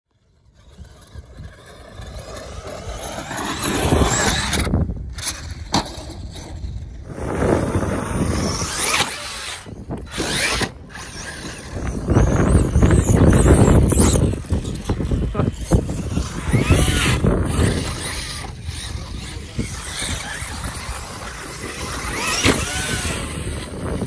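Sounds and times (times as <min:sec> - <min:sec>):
rc truck motor whine: 0:00.1 - 0:24.0.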